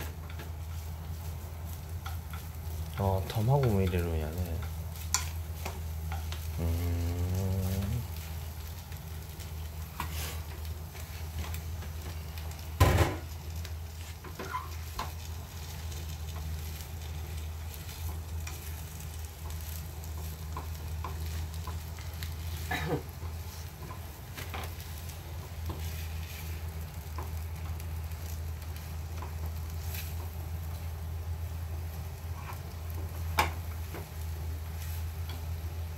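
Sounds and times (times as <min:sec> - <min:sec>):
food sizzling in a frying pan: 0:00.0 - 0:35.9
steady low hum: 0:00.0 - 0:35.9.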